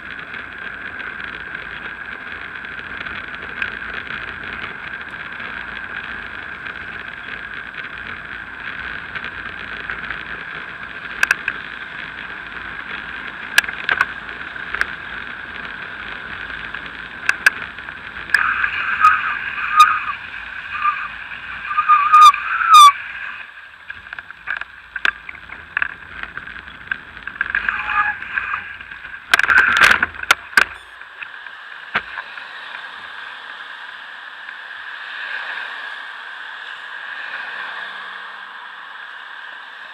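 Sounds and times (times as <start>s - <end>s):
bicycle rattling over bumps: 0.0s - 33.0s
wind and tyre hum: 0.0s - 39.9s.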